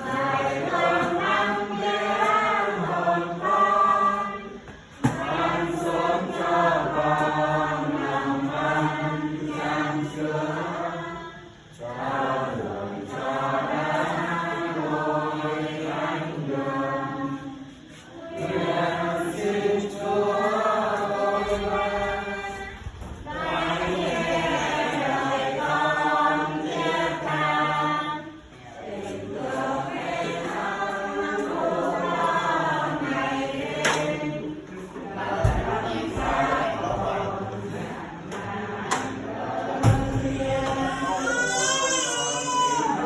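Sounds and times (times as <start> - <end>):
group chanting prayers: 0.0 - 43.0.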